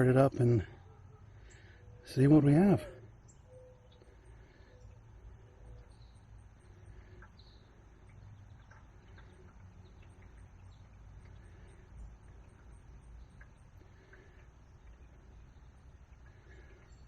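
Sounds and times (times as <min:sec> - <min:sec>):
insect chirping: 0:00.7 - 0:17.0.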